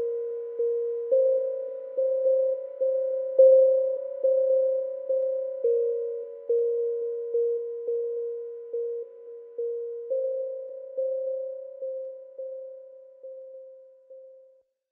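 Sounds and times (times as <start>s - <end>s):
soft electronic keyboard melody: 0.0s - 14.6s.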